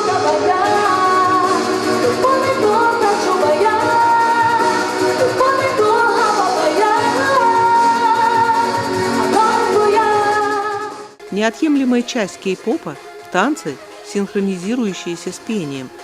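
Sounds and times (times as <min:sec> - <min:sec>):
backing track: 0:00.0 - 0:16.0
woman singing pop song: 0:00.0 - 0:16.0.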